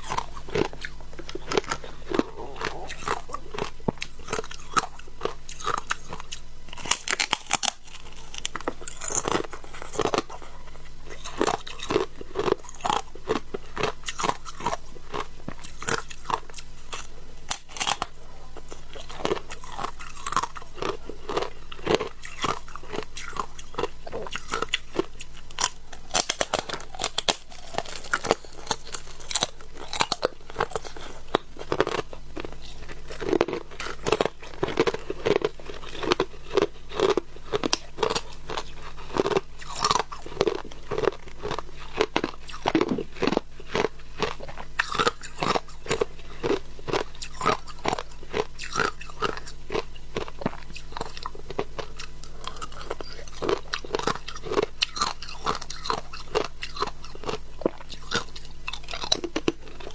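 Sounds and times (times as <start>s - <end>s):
shaved ice being chewed: 0.0s - 59.9s.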